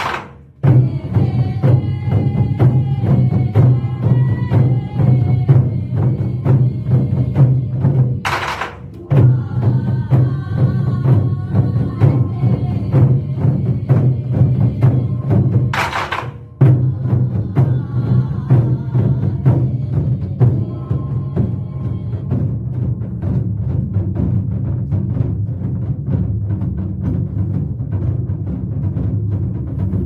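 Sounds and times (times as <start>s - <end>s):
large drums fast beat: 0.0s - 30.0s.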